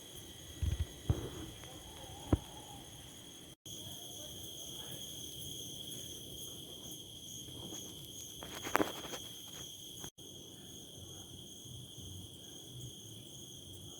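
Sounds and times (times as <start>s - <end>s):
crickets chirping: 0.0s - 13.9s.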